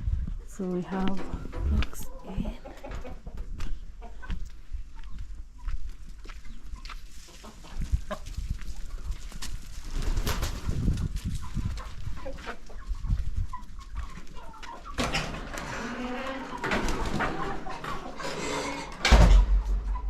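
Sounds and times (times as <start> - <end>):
hens clucking: 0.7 - 9.6, 10.6 - 20.0.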